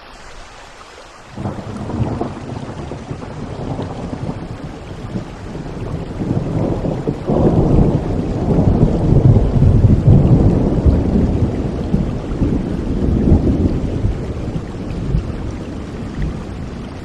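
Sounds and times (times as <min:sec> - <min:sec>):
steady rain: 0:00.0 - 0:17.0
thunder rumbling: 0:01.3 - 0:17.0.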